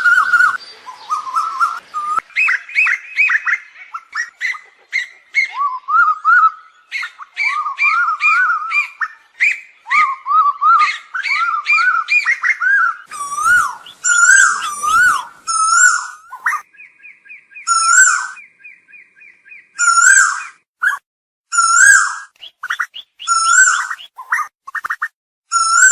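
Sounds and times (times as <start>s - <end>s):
bird calling loudly: 0.0s - 25.9s.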